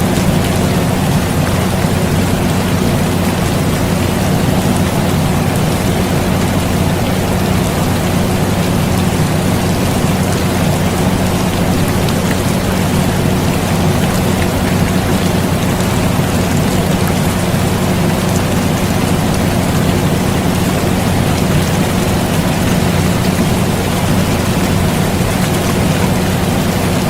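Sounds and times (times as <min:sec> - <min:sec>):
air conditioner hum: 0:00.0 - 0:27.0
rain hiss: 0:00.0 - 0:27.0.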